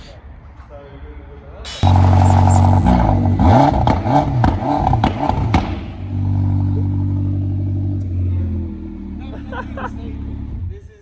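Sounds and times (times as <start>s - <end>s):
car engine revving and idling: 1.7s - 11.0s.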